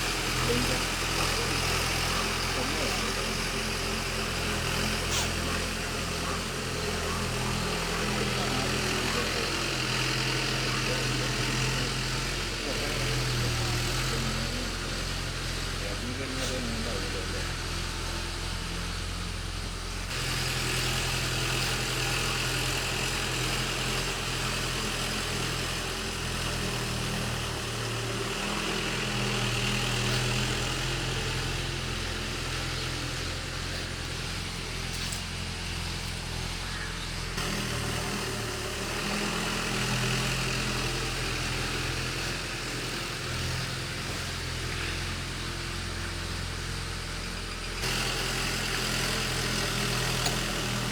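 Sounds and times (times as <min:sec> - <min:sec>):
ploughing machine engine running: 0:00.0 - 0:50.9.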